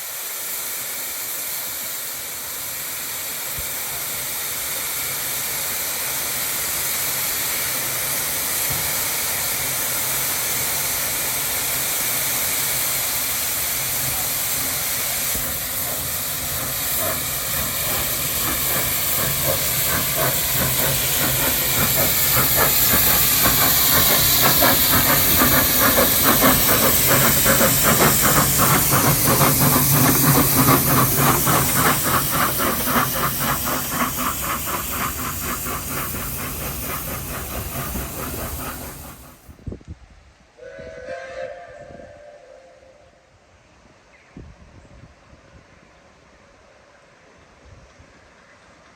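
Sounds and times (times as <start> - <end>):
steam hissing: 0.0 - 39.8, 40.6 - 43.0
steam locomotive exhaust beats: 0.0 - 43.4.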